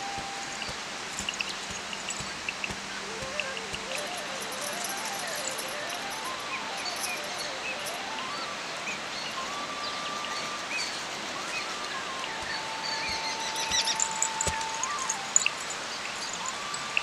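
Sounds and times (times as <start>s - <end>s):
bird chirps: 0.0s - 17.0s
slow wavering tone: 0.0s - 17.0s
steady hiss: 0.0s - 17.0s.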